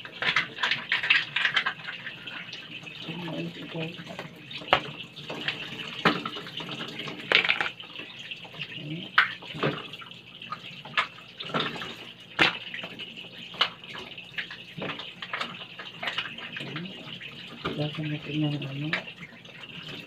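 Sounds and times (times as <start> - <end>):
shellfish clicking and splashing: 0.0 - 20.0
tap water running into sink: 0.0 - 20.0.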